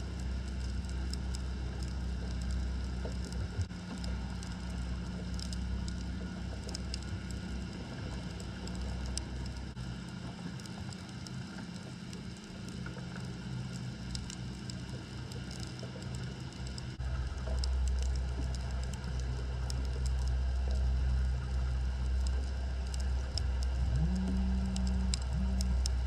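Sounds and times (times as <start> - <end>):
deep low rumble: 0.0 - 26.0
low hum: 0.0 - 26.0
underwater crackle of clicks: 0.0 - 26.0.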